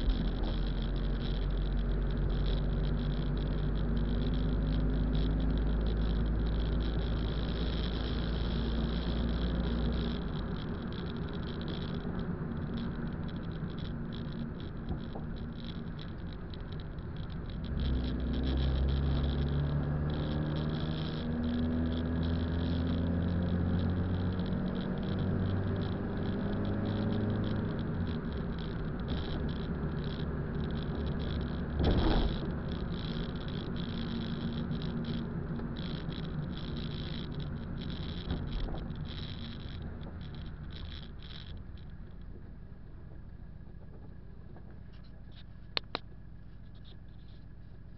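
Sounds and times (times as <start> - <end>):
car engine hum: 0.0 - 47.9
road noise inside car: 0.0 - 47.9.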